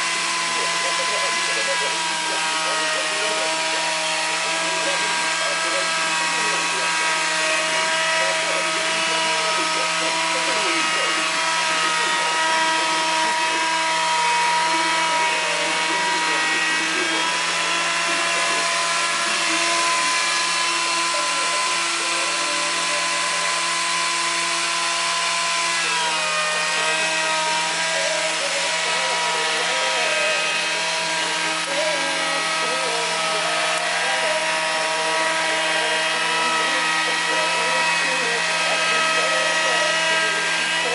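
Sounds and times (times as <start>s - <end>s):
hiss of cutting wood: 0.0s - 40.9s
wood lathe motor whining: 0.0s - 40.9s.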